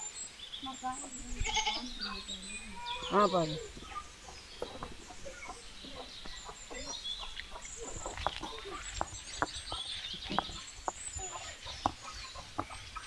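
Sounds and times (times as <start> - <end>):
small birds chirping: 0.0 - 13.0
chickens clucking: 0.7 - 13.0.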